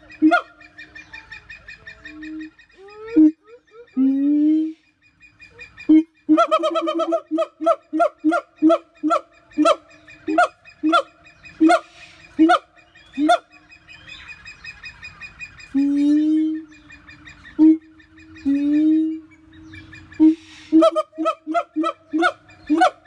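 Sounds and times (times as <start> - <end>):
gibbon hooting calls: 0.0 - 4.8, 5.4 - 23.0.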